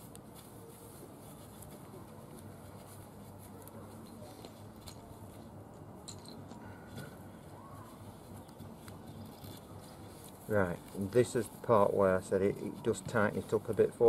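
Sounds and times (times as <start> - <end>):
cord rustling and tapping on poles: 0.0 - 14.0.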